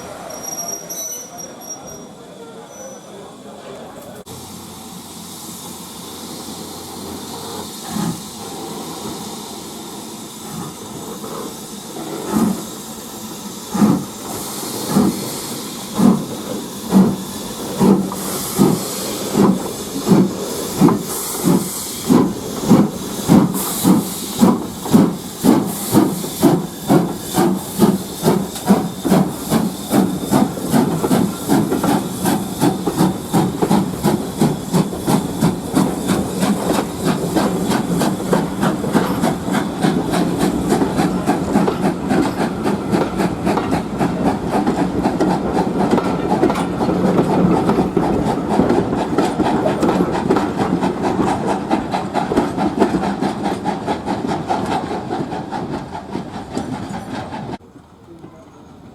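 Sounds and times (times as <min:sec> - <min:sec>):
hiss of steam: 0:04.2 - 0:57.6
steam locomotive exhaust beats: 0:04.2 - 0:58.9.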